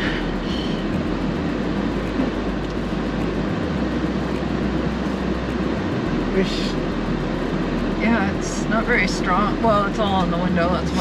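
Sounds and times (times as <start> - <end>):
car heater blower rushing: 0.0 - 11.0
engine and road rumble: 0.0 - 11.0.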